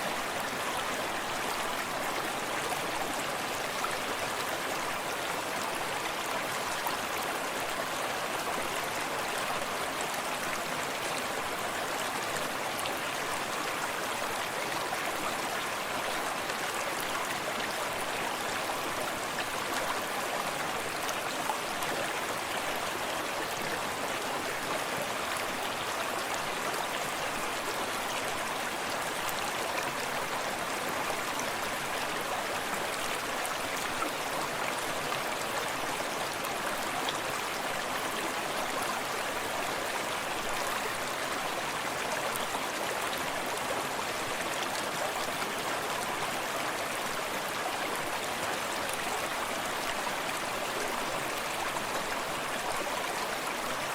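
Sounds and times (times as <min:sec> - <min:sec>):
stream running over stones: 0:00.0 - 0:53.9.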